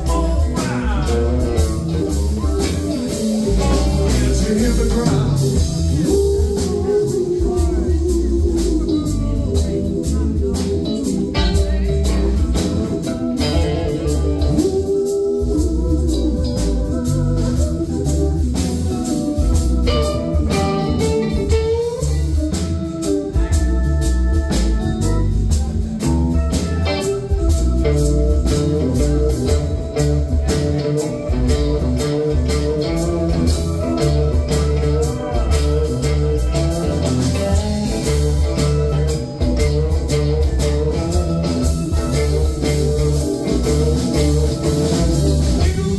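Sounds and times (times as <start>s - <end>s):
bass guitar: 0.0s - 45.9s
drum kit: 0.0s - 45.9s
electric guitars: 0.0s - 45.9s
organ-toned keyboards: 0.0s - 45.9s.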